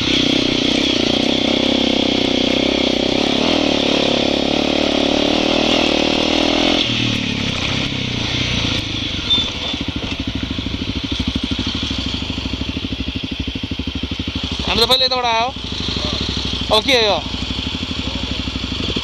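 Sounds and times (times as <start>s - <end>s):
dirt bike engine: 0.0s - 19.0s.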